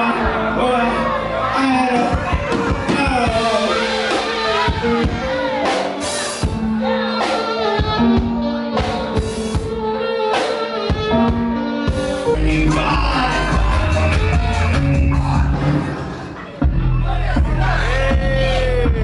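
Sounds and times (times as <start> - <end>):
saxophone melody: 0.0 - 15.9
live band playing: 0.0 - 19.0
drum kit beat: 1.9 - 19.0.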